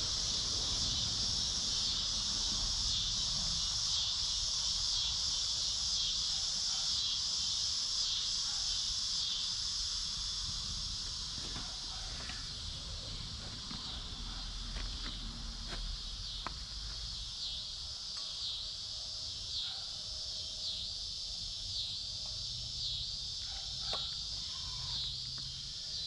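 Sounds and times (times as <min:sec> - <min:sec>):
insect chorus buzzing: 0:00.0 - 0:26.0.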